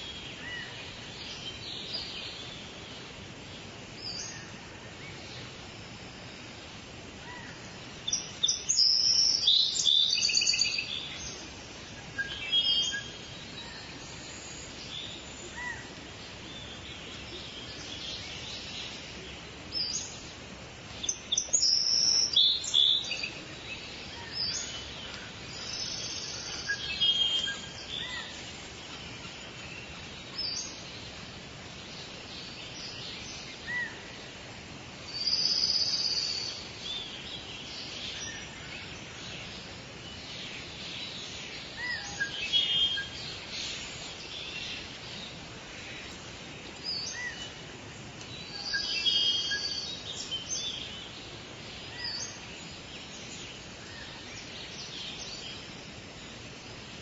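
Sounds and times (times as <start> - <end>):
steady background hiss: 0.0 - 57.0
birds chirping and singing: 7.3 - 34.4, 35.1 - 56.8.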